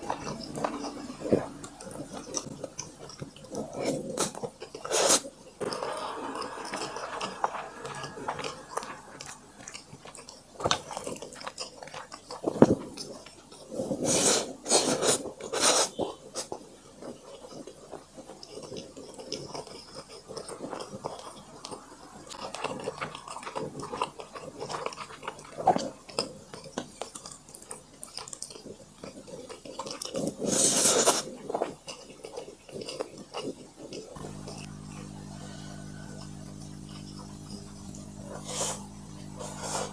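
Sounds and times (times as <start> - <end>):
close chewing and eating: 0.0 - 39.9.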